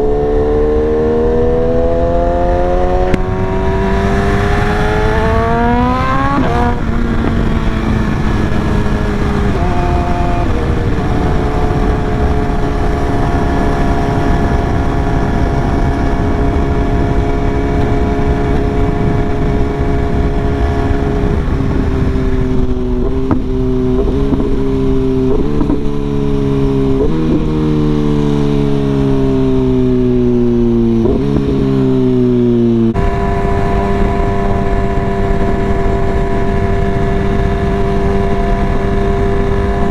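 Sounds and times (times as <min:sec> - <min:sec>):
motorcycle engine revving: 0:00.0 - 0:39.9
wind rushing: 0:00.0 - 0:39.9.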